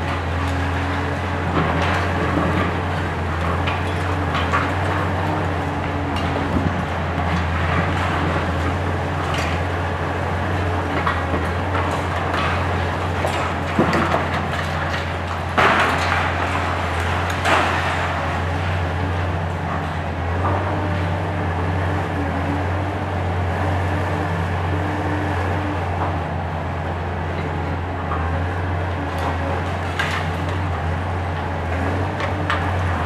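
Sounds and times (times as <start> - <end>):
excavator diesel engine under load: 0.0 - 33.0.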